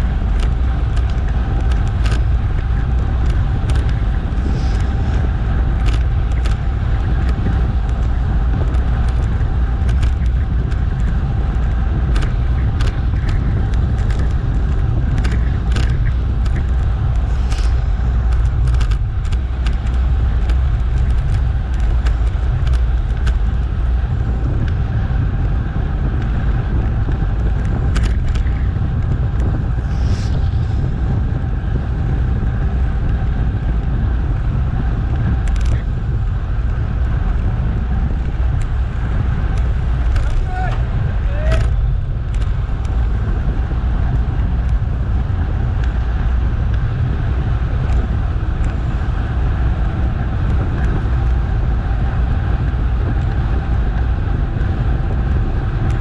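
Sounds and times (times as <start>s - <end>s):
bicycle road rumble: 0.0s - 56.0s
wind: 0.0s - 56.0s.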